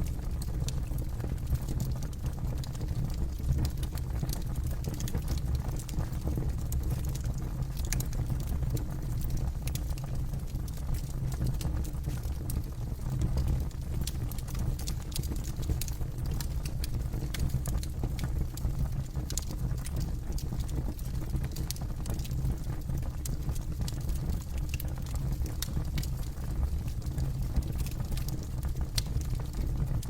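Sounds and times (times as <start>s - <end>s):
low rumble of burning fire: 0.0s - 30.0s
campfire crackling and popping: 2.7s - 8.6s, 9.2s - 12.6s, 13.4s - 30.0s.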